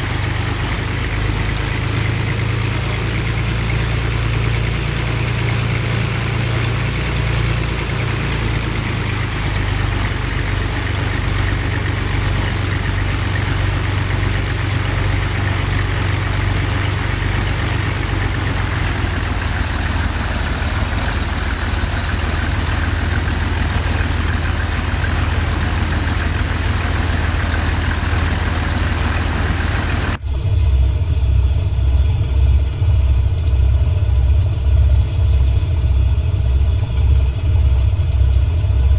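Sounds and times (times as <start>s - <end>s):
plane piston engine droning: 0.0s - 38.9s.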